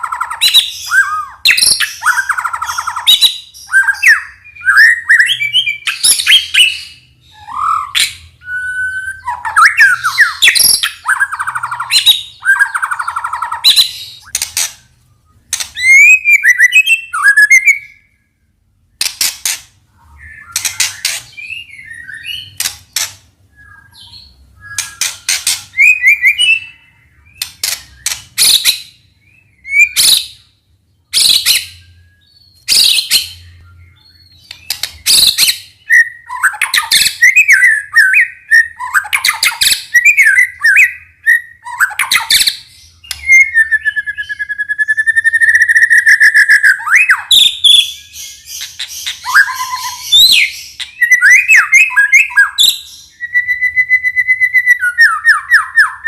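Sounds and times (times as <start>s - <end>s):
songbird singing loudly: 0.0s - 19.1s, 20.0s - 56.0s.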